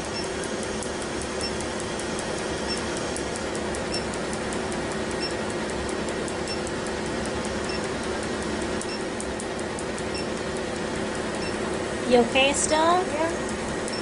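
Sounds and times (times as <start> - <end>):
laser snapping pulses: 0.0 - 11.6.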